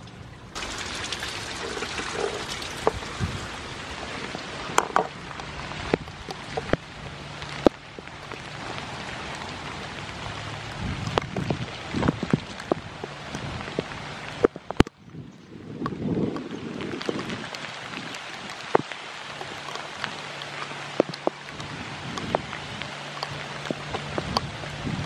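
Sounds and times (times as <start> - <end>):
heavy raindrops ticking: 0.0 - 25.0
steady rain falling: 0.0 - 25.0.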